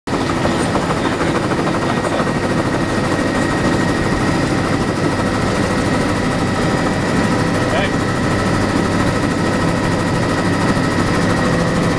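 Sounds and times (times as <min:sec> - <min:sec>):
helicopter engine and rotor: 0:00.1 - 0:11.9.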